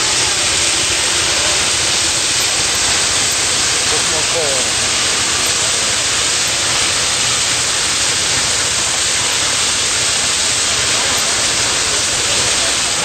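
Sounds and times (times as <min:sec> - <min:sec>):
steam fire engine hissing: 0:00.0 - 0:13.0.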